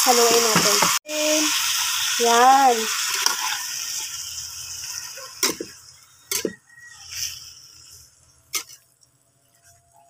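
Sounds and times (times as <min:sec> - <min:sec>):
pork sizzling in a wok: 0:00.0 - 0:10.0.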